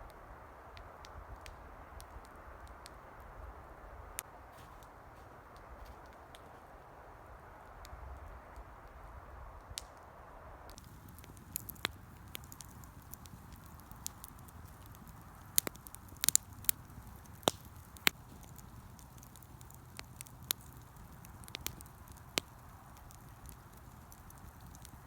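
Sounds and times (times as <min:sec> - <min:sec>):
faint steady hiss: 0:00.0 - 0:25.0
campfire crackling: 0:00.4 - 0:10.0, 0:10.7 - 0:25.0.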